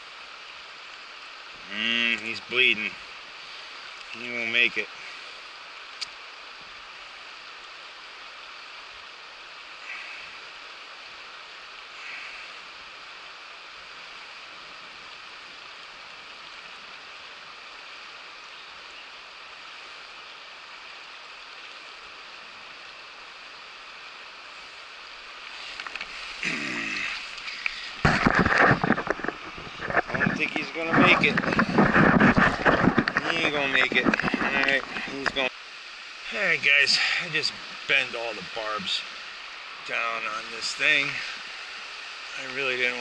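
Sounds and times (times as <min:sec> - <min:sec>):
river water running over rocks: 0:00.0 - 0:43.0.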